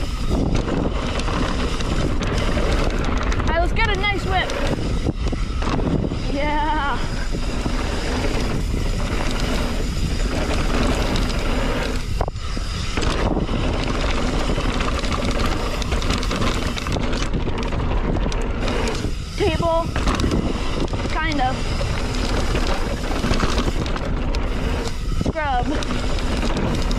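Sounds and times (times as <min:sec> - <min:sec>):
bike tyres rolling over dirt: 0:00.0 - 0:26.9
wind rushing over microphone: 0:00.0 - 0:26.9.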